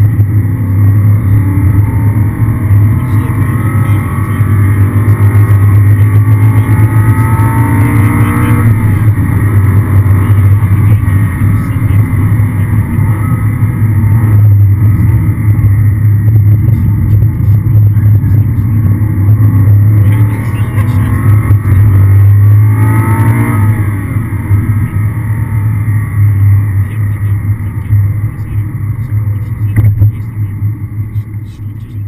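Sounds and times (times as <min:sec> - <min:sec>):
car engine revving hard: 0:00.0 - 0:32.0
low cabin drone: 0:00.0 - 0:32.0.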